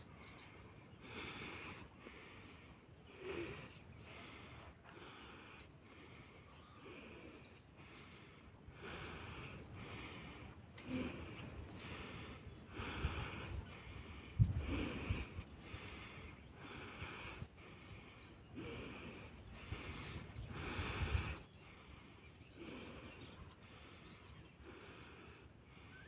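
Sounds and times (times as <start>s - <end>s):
forceful breathing through nose: 0.0s - 26.0s.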